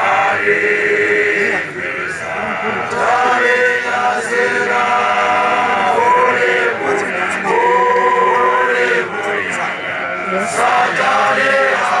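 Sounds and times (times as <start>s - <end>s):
men singing in chorus: 0.0s - 12.0s.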